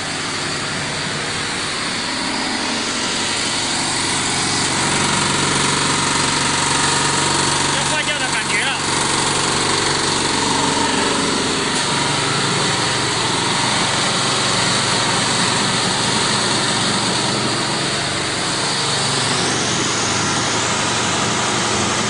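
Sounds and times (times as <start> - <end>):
cooling fans rushing air: 0.0 - 22.0
electric motors humming: 0.0 - 22.0.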